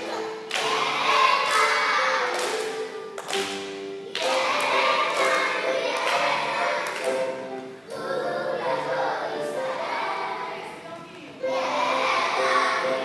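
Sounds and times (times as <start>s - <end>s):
children singing: 0.0s - 10.8s, 11.4s - 13.0s
music: 0.0s - 13.0s.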